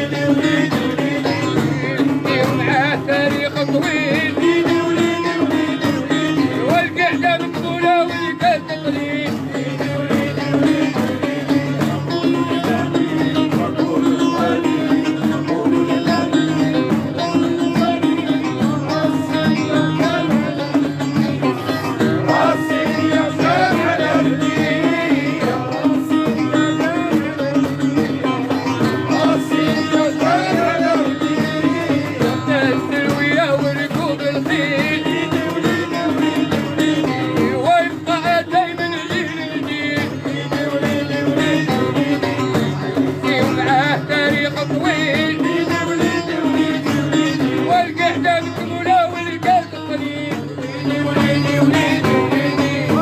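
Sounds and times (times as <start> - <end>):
song with instrumental accompaniment: 0.0 - 53.0.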